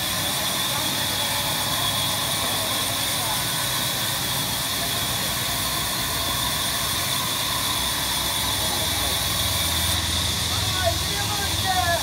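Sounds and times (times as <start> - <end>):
log saw whining: 0.0 - 12.0.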